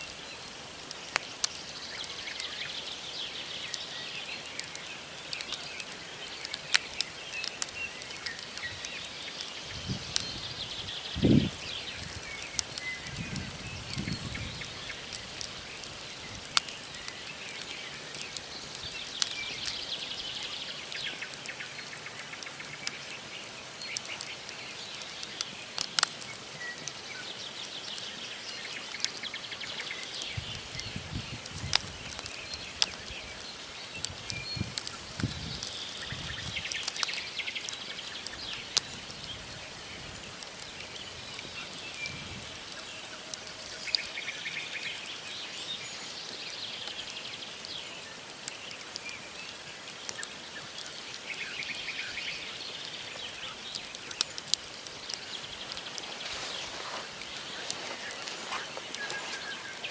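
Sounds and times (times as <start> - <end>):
campfire crackling and popping: 0.0 - 59.9
hiss of burning wood: 0.0 - 59.9.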